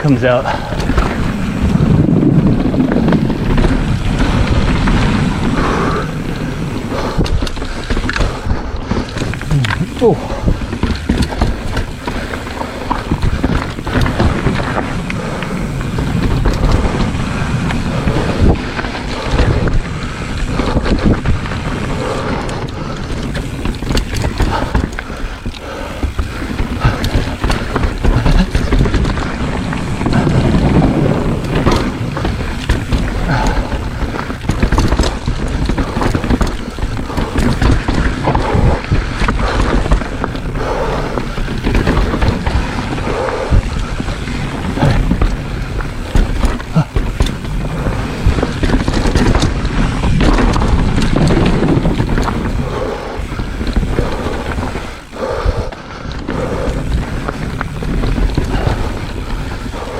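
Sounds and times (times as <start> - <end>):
bike clattering over rocks: 0.0 - 59.9
tyres rumbling on dirt: 0.0 - 59.9
wind buffeting microphone: 0.0 - 59.9.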